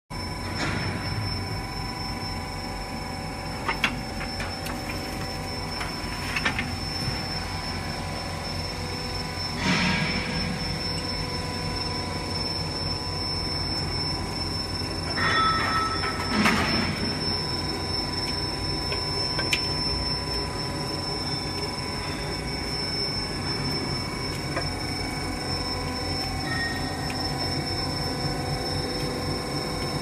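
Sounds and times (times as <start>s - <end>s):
machine drone with high whine: 0.1s - 30.0s
metallic squeal: 0.5s - 30.0s.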